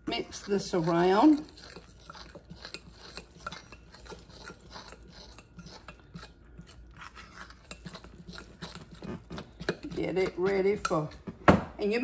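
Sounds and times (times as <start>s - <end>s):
fork scraping glass bowl: 0.0s - 11.2s.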